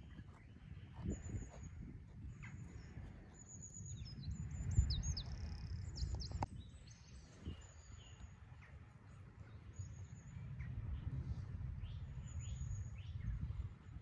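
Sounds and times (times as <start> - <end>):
wild birds chirping: 0.0 - 14.0.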